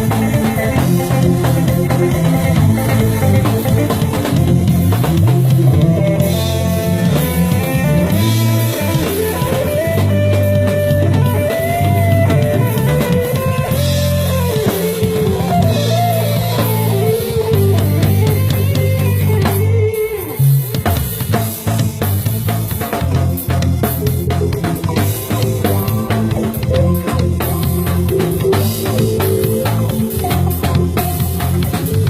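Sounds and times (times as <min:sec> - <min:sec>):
bass notes: 0:00.0 - 0:32.0
drum kit: 0:00.0 - 0:32.0
guitar melody: 0:00.0 - 0:32.0.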